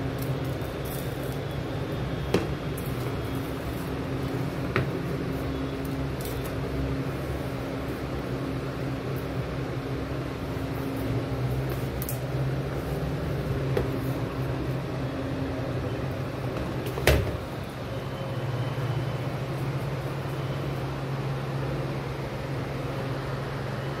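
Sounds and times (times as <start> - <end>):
appliance humming: 0.0 - 24.0.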